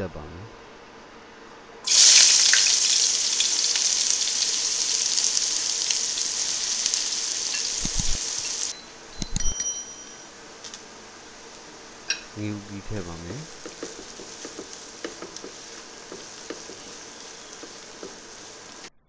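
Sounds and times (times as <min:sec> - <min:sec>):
shallots sizzling in hot oil: 0:01.8 - 0:08.7, 0:10.2 - 0:18.9.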